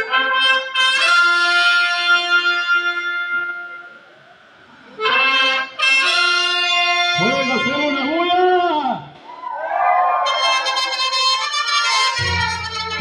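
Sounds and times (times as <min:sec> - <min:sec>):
mariachi band with accordion: 0:00.0 - 0:04.1, 0:04.8 - 0:08.8, 0:10.2 - 0:13.0.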